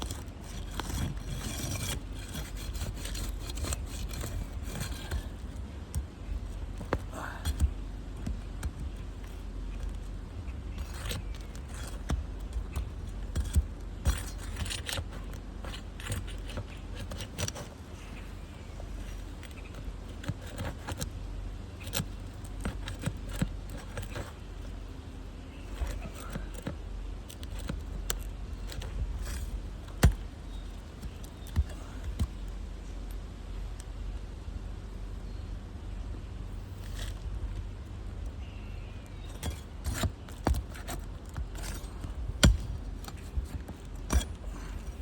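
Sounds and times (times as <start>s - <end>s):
tools scraping roof shingles: 0.0s - 32.7s, 39.0s - 45.0s.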